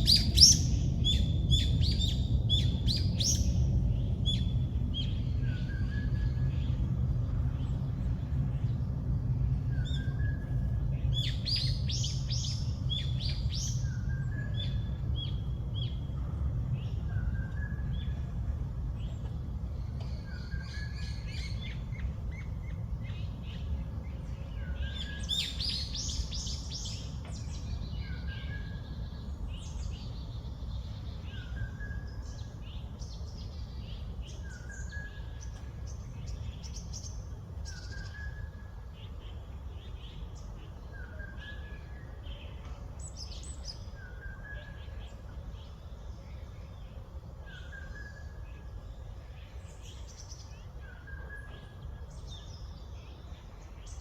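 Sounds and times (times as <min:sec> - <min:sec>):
birds calling and chirping: 0:00.0 - 0:54.0
low background rumble: 0:00.0 - 0:54.0.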